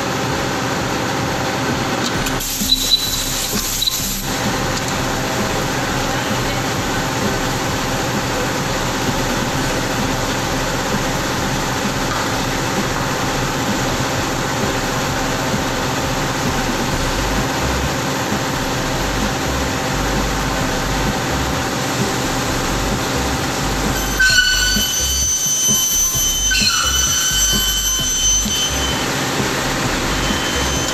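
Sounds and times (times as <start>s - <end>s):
circular saw drone: 0.0s - 30.9s
shop machinery: 0.0s - 30.9s
high-pitched ringing whine: 2.2s - 30.9s.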